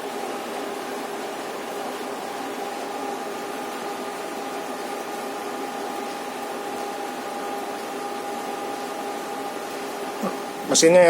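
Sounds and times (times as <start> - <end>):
machine hum with whine: 0.0 - 11.0.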